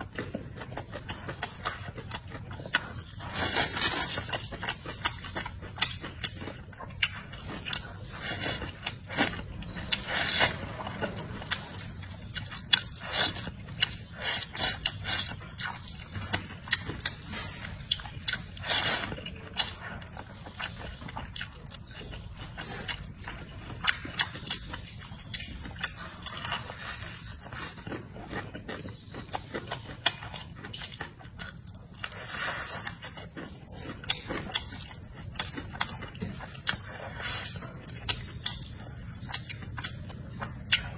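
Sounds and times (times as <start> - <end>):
noodles slurped and chewed: 0.0 - 40.9.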